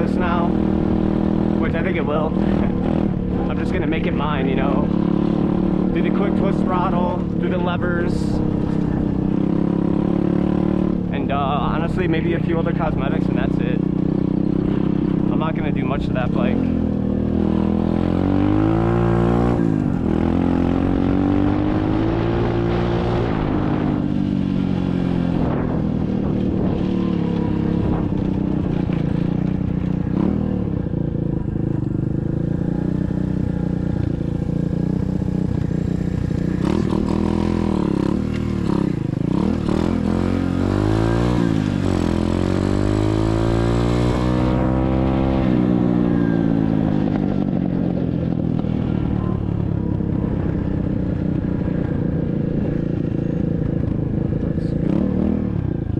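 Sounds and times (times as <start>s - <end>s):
dirt bike engine revving: 0.0s - 49.0s, 54.1s - 55.6s.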